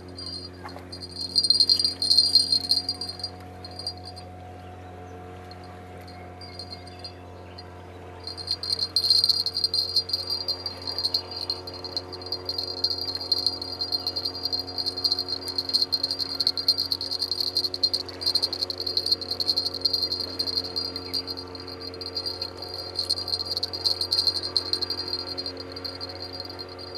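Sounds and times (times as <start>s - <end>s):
steady low hum: 0.0s - 26.9s
cricket chirping: 0.1s - 4.2s, 8.3s - 26.9s.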